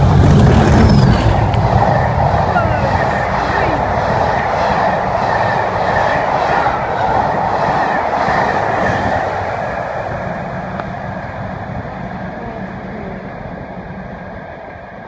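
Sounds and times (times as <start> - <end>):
passenger train rumbling past: 0.0 - 15.0.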